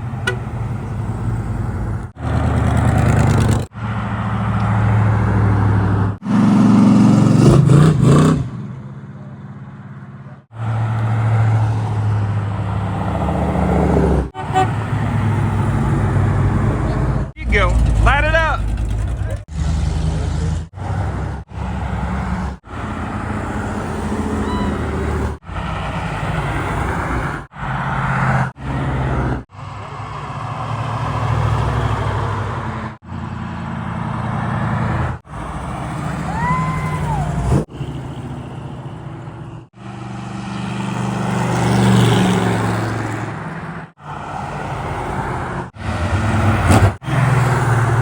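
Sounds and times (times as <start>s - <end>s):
car engines rumbling past: 0.0s - 48.0s.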